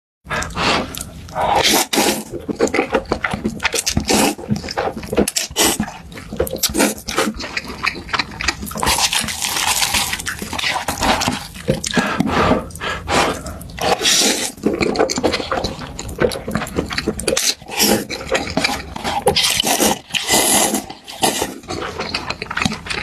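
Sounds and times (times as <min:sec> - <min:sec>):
wet chewing and slurping: 0:00.3 - 0:23.0.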